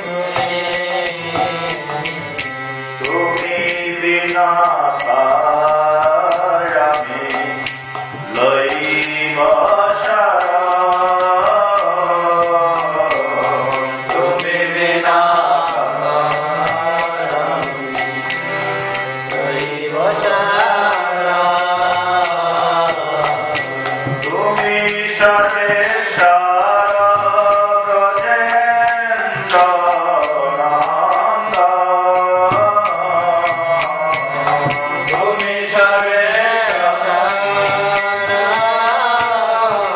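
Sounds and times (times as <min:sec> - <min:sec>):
man chanting a sung melody: 0:00.0 - 0:02.4, 0:03.0 - 0:18.3, 0:19.3 - 0:39.9.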